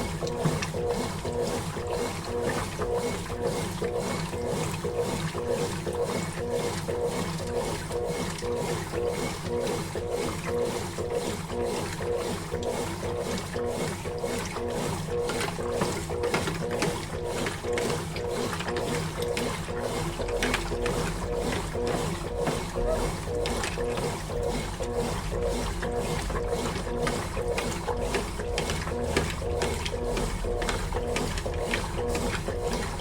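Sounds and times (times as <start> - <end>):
washing machine agitating: 0.0 - 33.0.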